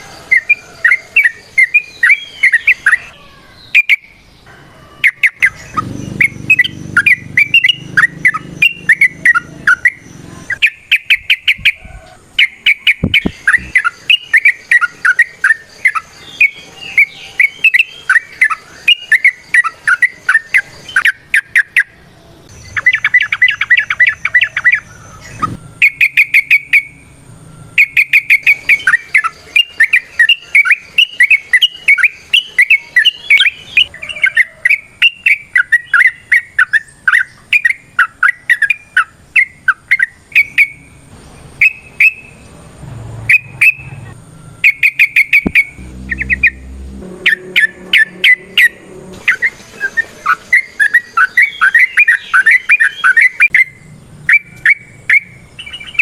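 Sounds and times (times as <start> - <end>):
bird chattering song: 0.0 - 27.1, 27.7 - 42.6, 43.3 - 56.0.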